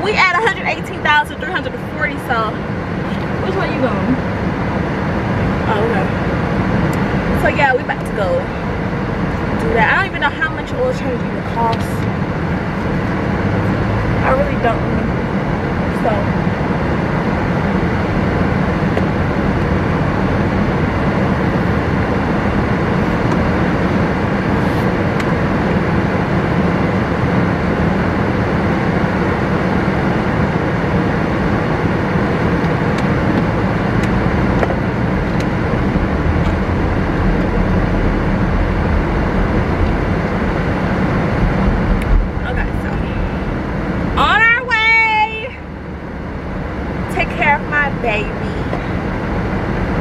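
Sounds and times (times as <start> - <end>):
car road and wind noise: 0.0 - 50.0.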